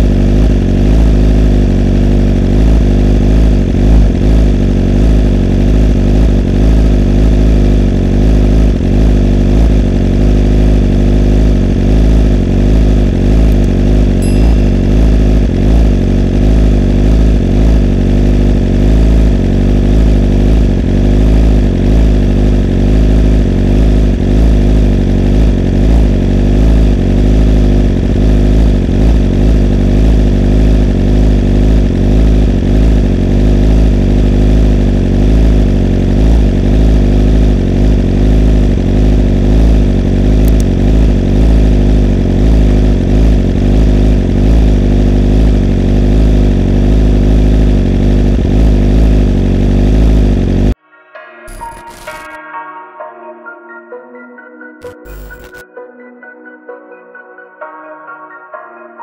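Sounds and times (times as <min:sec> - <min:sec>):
motorcycle engine idling: 0:00.0 - 0:50.8.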